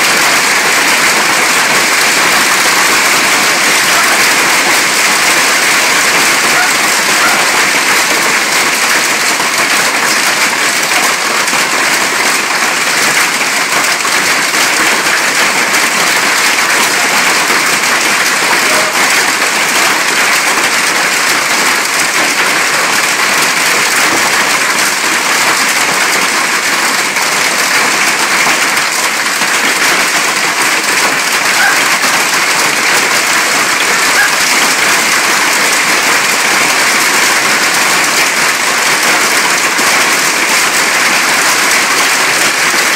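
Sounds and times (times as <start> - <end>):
hail and rain pelting a roof: 0.0 - 42.9.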